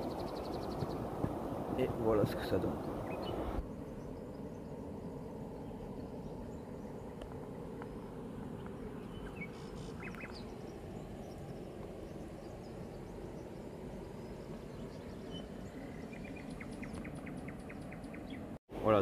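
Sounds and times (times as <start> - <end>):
bird calls and chirps: 0.0 - 1.2, 2.3 - 18.6
low outdoor background noise: 0.0 - 19.0.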